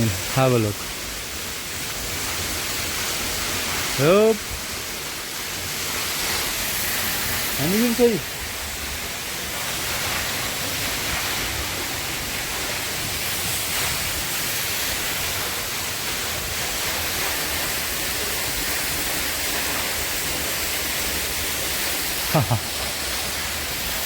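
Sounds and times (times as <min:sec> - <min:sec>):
waterfall pouring: 0:00.0 - 0:24.0.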